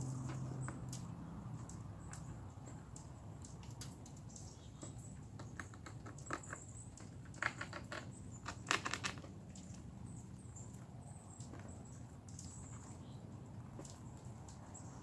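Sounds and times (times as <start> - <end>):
squirrel clicking and scratching: 0.1 - 15.0.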